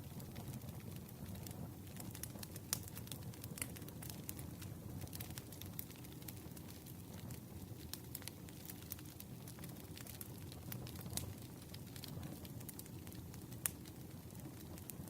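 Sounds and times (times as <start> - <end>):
burning logs snapping and popping: 0.0 - 15.0
low rumble of flames: 0.0 - 15.0.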